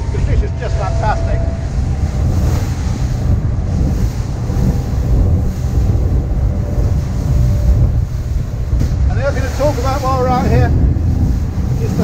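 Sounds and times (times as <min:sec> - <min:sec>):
rushing water: 0:00.0 - 0:12.0
wind rumble on microphone: 0:00.0 - 0:12.0.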